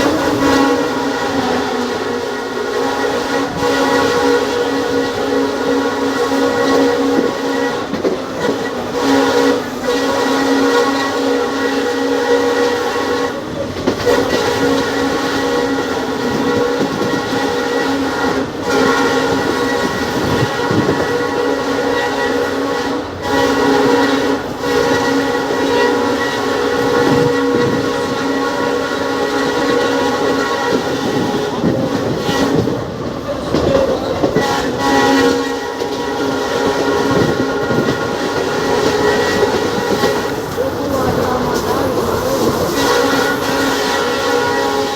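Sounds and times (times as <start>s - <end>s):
locomotive horn blasts: 0.0s - 44.9s
running train noise: 0.0s - 44.9s.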